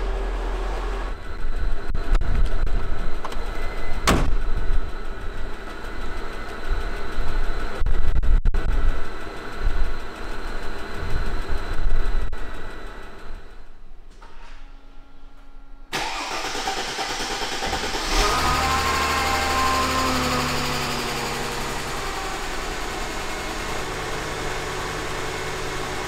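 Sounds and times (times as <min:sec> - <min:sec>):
car engine running: 0:00.0 - 0:13.8, 0:16.0 - 0:26.0.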